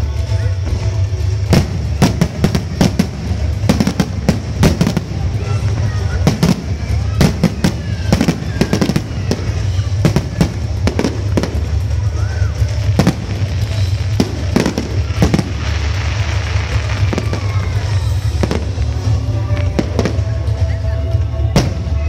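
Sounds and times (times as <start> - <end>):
fireworks bursting: 0.0 - 22.0
low rumble: 0.0 - 22.0.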